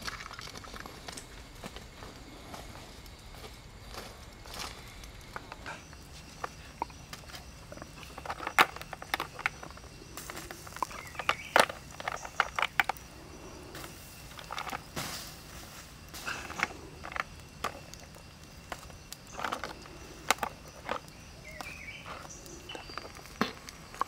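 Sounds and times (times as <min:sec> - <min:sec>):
faint outdoor background: 0:00.0 - 0:24.0
shells clicking on embers: 0:00.0 - 0:24.0.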